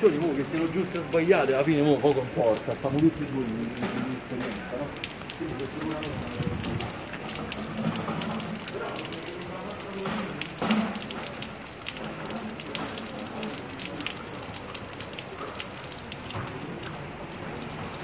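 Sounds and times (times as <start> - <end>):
faint voices murmuring: 0.0 - 17.7
rain pattering: 0.0 - 18.0.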